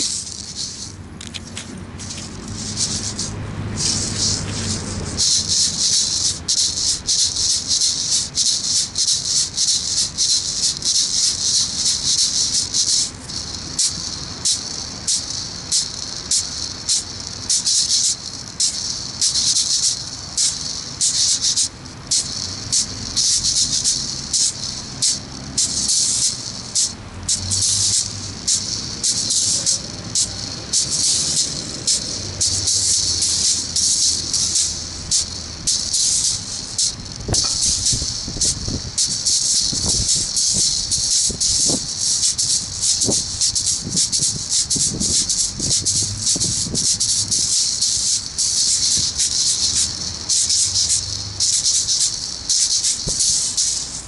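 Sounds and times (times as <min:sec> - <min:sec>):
juggling balls rattling: 0:00.0 - 0:54.0.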